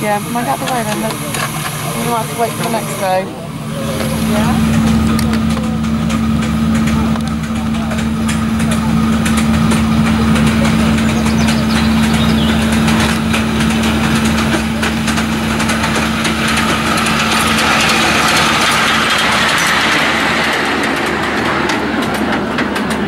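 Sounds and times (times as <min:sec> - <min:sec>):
steady low drone: 0:00.0 - 0:23.0
steam locomotive hissing: 0:00.0 - 0:23.0
wheel and track clicks: 0:03.9 - 0:23.0.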